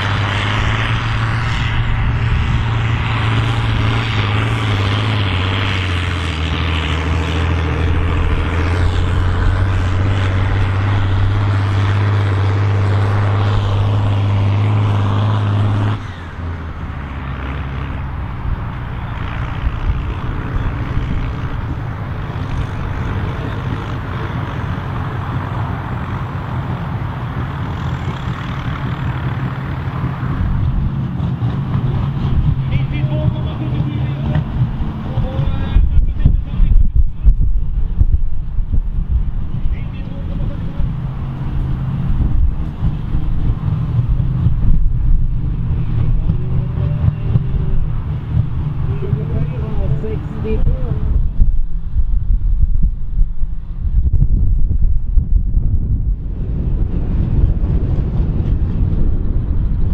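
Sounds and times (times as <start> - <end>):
tractor diesel engine running hard: 0.0 - 59.9.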